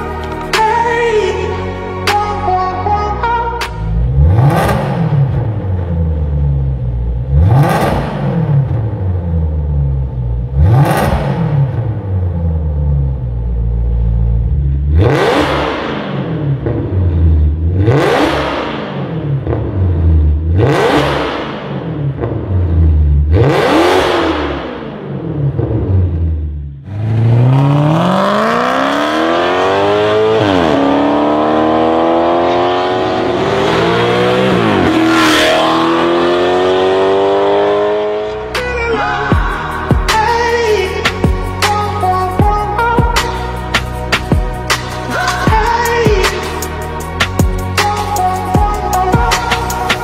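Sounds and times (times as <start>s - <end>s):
car engine revving and accelerating: 3.7s - 50.0s.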